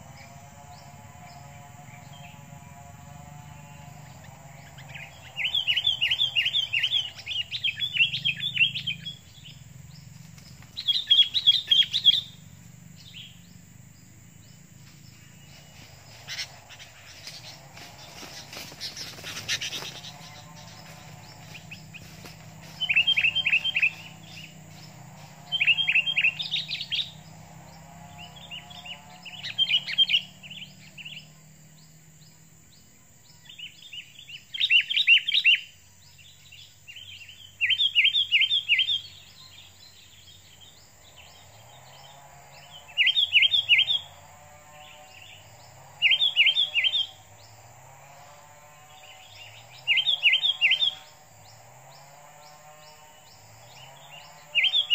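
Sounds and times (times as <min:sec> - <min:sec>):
birds chirping sharply: 0:04.0 - 0:32.4, 0:36.5 - 0:54.9.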